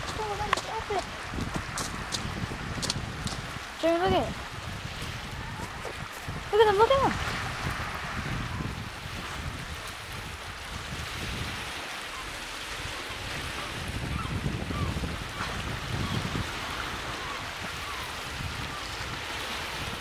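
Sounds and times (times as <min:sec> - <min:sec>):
waves lapping on rocky shore: 0:00.0 - 0:20.0
wind gusting on microphone: 0:00.0 - 0:20.0.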